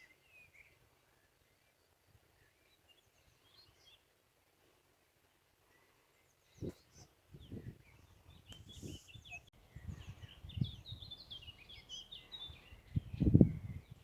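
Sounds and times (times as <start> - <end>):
small birds chirping: 0.0 - 4.2, 5.6 - 14.0.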